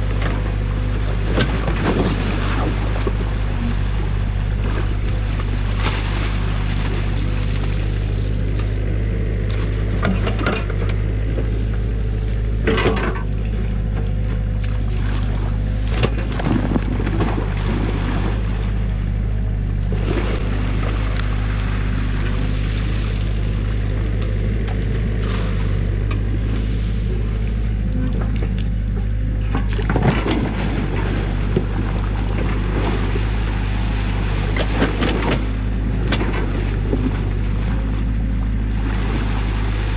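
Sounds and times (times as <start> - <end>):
excavator diesel engine running: 0.0 - 39.9
flowing water: 0.0 - 39.9.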